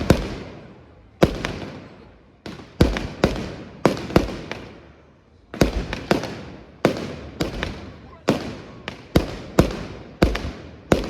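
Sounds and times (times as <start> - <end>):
fireworks bangs echoing: 0.0 - 11.0.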